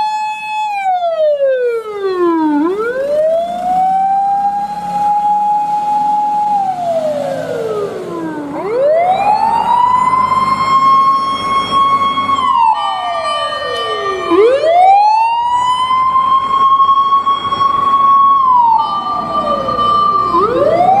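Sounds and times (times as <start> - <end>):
fire engine siren wailing: 0.0 - 21.0
steady higher siren tone: 0.0 - 21.0.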